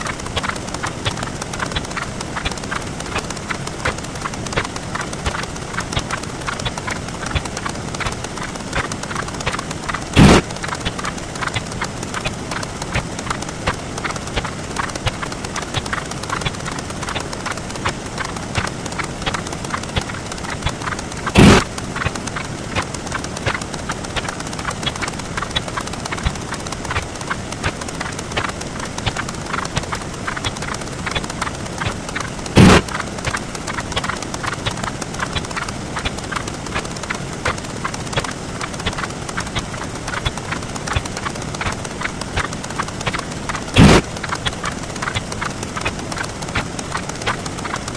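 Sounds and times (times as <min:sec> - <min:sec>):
rapid stream of short clicks: 0:00.0 - 0:47.9.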